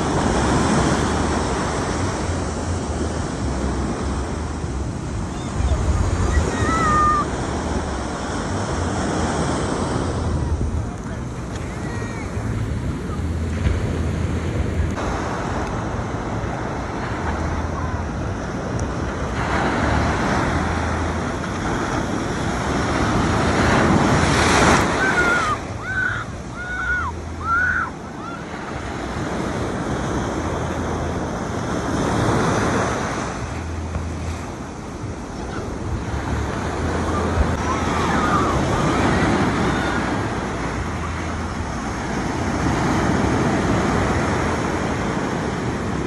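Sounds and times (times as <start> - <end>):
big wave crashing: 0.0 - 46.0
ocean surf breaking on shore: 0.0 - 46.0.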